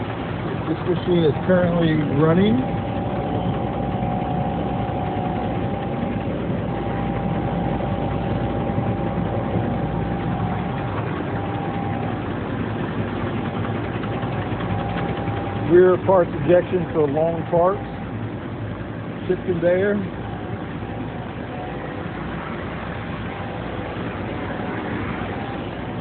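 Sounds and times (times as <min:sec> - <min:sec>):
lathe machining noise: 0:00.0 - 0:26.0
machine whine: 0:00.0 - 0:26.0.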